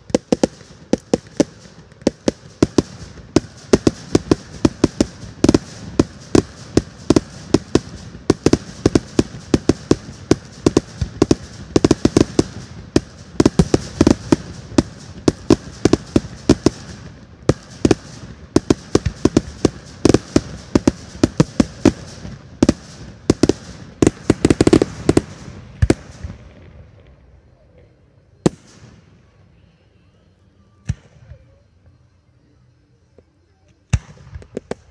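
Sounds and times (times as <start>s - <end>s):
fireworks bangs and crackles: 0.0s - 29.7s, 30.8s - 32.0s, 33.7s - 34.9s.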